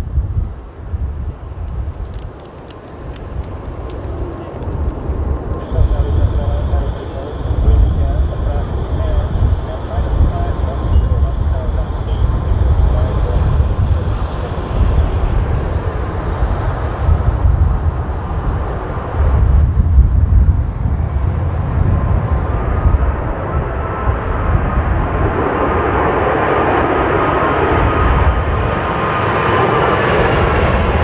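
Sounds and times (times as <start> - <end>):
jet engines with faint whine: 0.0 - 31.0
wind buffeting microphone: 0.0 - 31.0.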